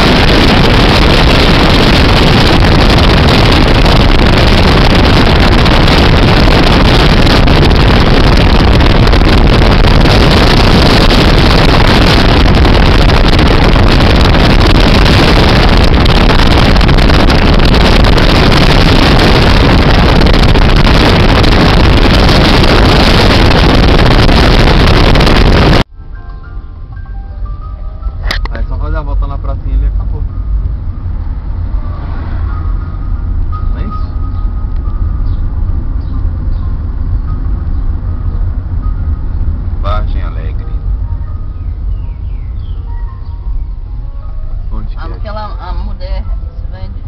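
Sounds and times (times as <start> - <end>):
wind buffeting microphone: 0.0 - 25.9, 29.8 - 47.0
car road noise: 0.0 - 47.0.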